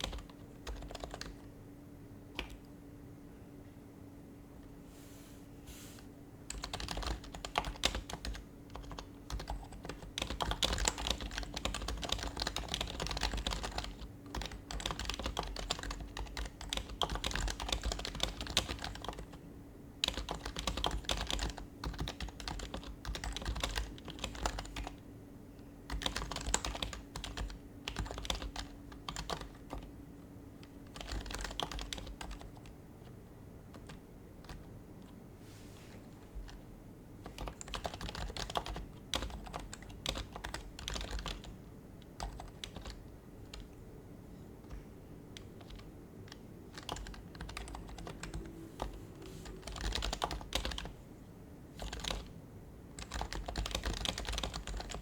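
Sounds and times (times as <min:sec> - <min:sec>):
soft muted keyboard typing: 0:00.0 - 0:01.6, 0:02.2 - 0:02.8, 0:06.4 - 0:19.4, 0:20.0 - 0:35.2, 0:35.9 - 0:51.1, 0:51.7 - 0:55.0.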